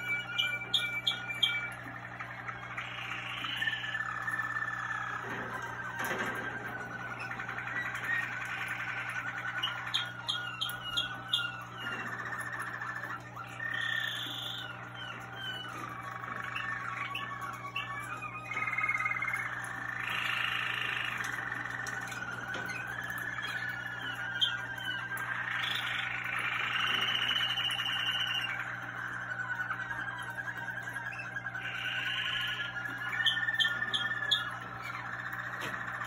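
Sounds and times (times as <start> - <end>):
canaries singing trills: 0.0 - 36.0.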